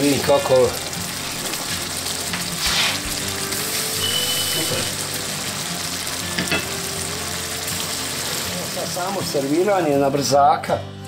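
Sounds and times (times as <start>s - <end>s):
pan simmering and sizzling: 0.0s - 10.3s.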